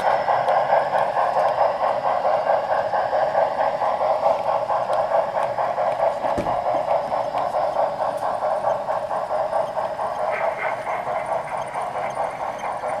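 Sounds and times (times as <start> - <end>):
model steam locomotive chuffing: 0.0 - 13.0.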